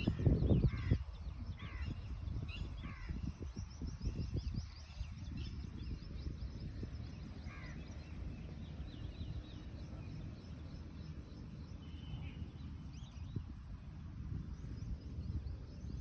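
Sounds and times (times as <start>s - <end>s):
lower bird call: 0.0s - 13.6s
small birds chirping: 0.0s - 16.0s
steady low rumble: 0.0s - 16.0s.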